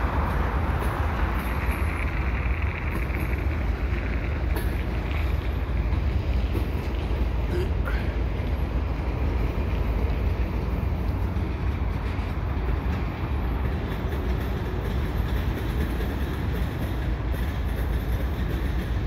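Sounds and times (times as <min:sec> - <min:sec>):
freight train rumbling over bridge: 0:00.0 - 0:19.0.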